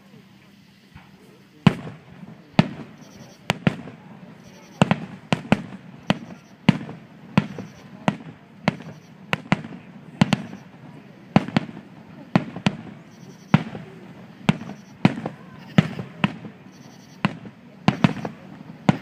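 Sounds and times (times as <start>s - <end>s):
fireworks banging: 0.0s - 19.0s.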